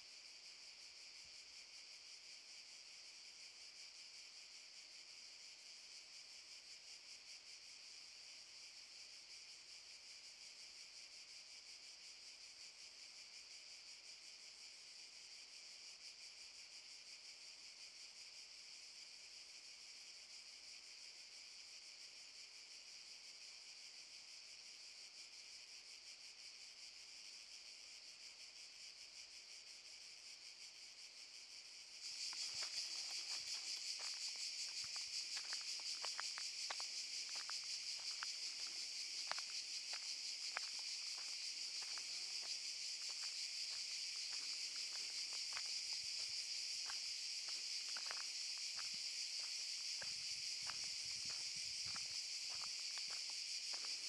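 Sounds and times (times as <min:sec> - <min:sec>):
cicadas chirping: 0:00.0 - 0:54.0.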